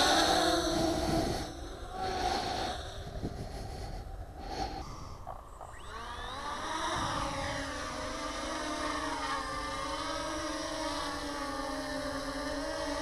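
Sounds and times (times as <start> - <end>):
wind rumbling on microphone: 0.0 - 10.7
quadcopter motors whining: 0.0 - 13.0.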